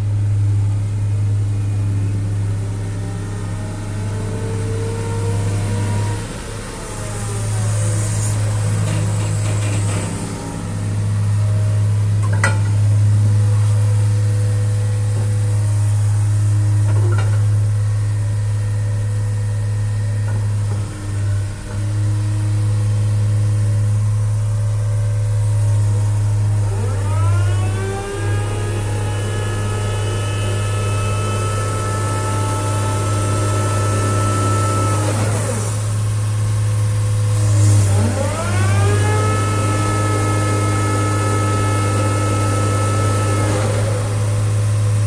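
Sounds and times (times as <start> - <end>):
engine whine rising: 0.0 - 12.2, 17.8 - 45.0
diesel excavator engine running: 0.0 - 45.0.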